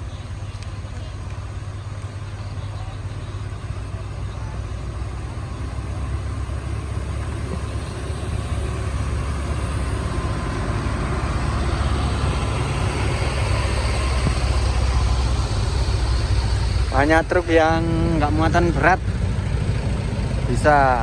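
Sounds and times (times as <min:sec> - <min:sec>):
heavy truck engine under load: 0:00.0 - 0:20.5.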